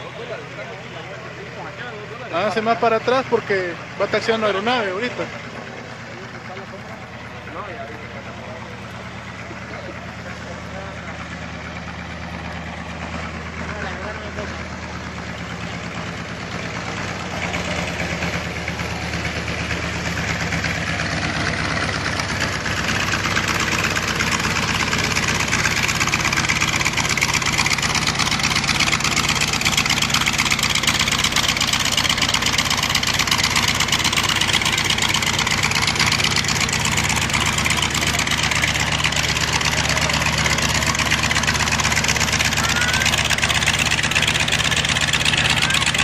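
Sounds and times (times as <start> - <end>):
radial engine and propeller running: 0.0 - 46.0.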